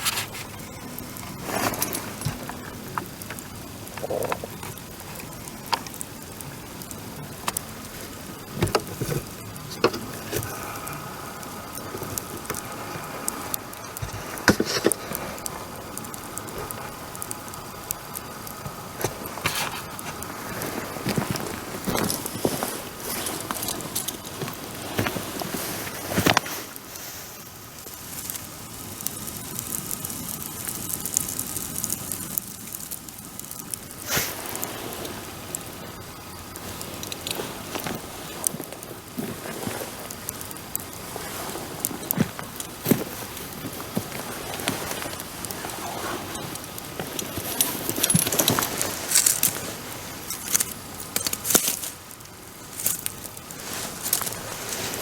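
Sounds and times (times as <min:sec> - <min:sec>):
bonfire crackling: 0:00.0 - 0:55.0
fire popping: 0:00.0 - 0:55.0.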